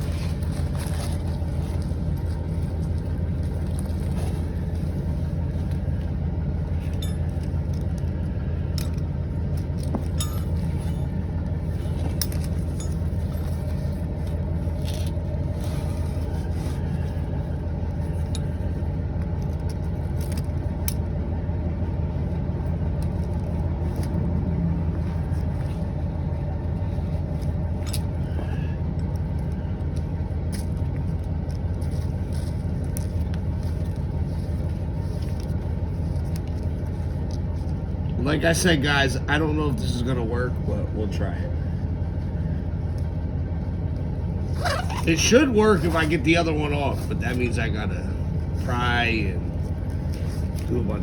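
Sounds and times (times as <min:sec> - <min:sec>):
engine idling with low hum: 0:00.0 - 0:51.0.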